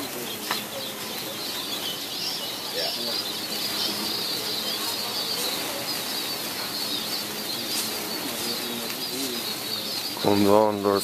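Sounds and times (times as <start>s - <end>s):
birds flapping wings: 0.0s - 11.0s
high-pitched chirring: 0.0s - 11.0s.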